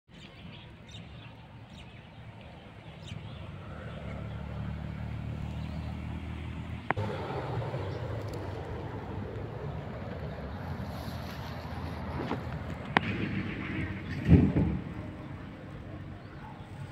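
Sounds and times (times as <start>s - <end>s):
low outdoor rumble: 0.3s - 16.9s.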